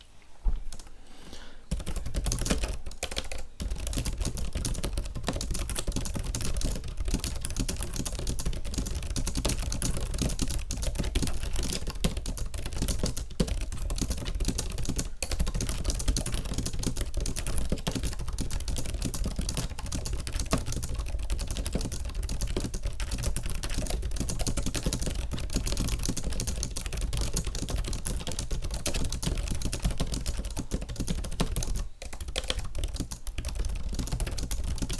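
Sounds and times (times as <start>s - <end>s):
fast keyboard typing: 1.7s - 34.9s.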